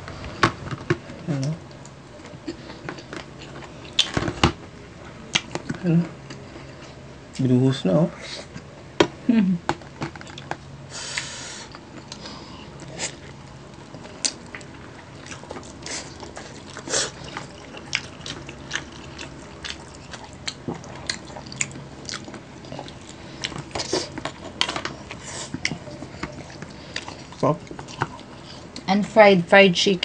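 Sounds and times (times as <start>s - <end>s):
chewing fried chicken: 1.4s - 7.4s, 9.8s - 28.9s.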